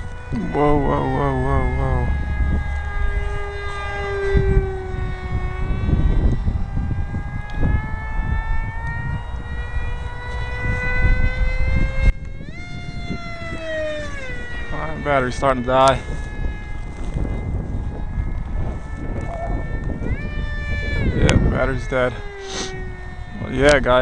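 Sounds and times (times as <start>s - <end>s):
electric motor propeller whine: 0.0s - 24.0s
wind rumble on microphone: 0.0s - 24.0s.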